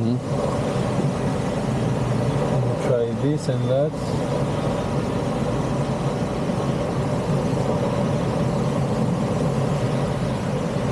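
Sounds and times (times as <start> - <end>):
motor glider cockpit hum and rush: 0.0 - 10.9.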